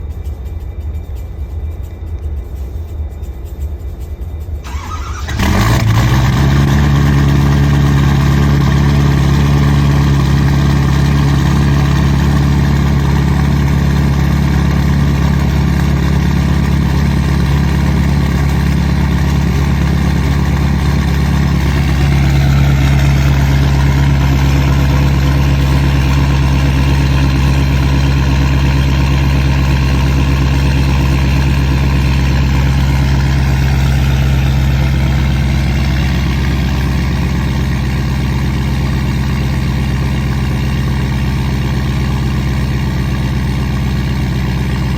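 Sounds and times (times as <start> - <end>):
diesel engine starting and idling: 4.6 - 44.9.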